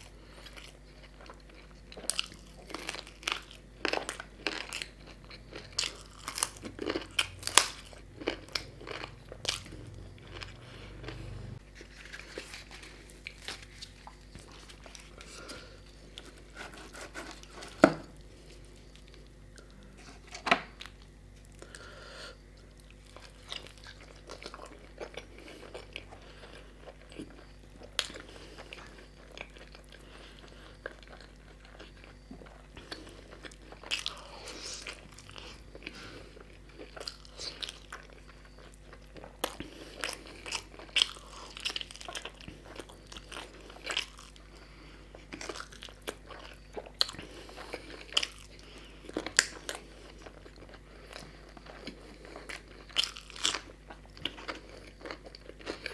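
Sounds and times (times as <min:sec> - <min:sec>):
person crunching and chewing food: 0:00.0 - 0:55.9.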